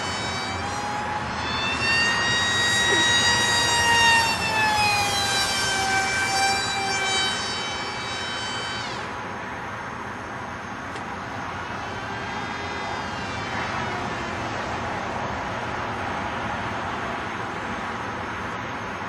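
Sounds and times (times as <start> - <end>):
electric motor and propeller whining: 0.0 - 18.6.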